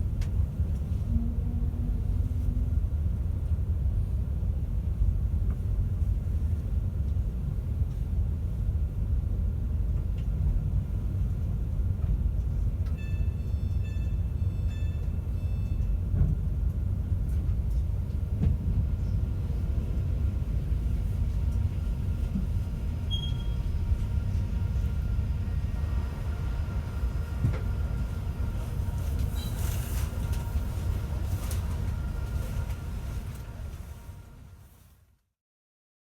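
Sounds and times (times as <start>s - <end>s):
train interior low rumble: 0.0s - 35.4s.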